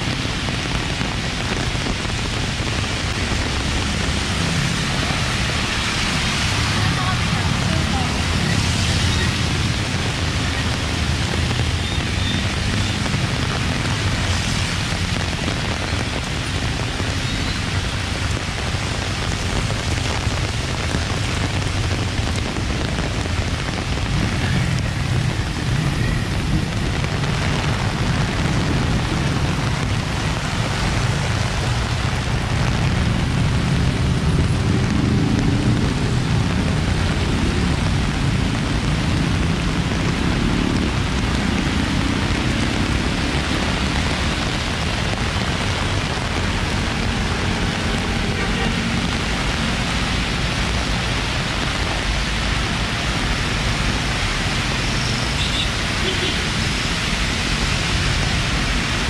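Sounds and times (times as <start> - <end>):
heavy rain on wet street: 0.0 - 59.0
passing cars and motorcycles: 0.0 - 59.0.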